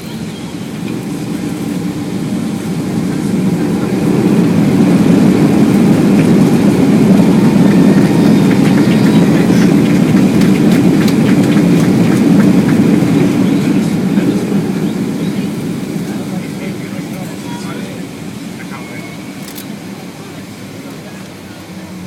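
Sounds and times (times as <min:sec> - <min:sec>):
jet engine and airflow roar: 0:00.0 - 0:22.0.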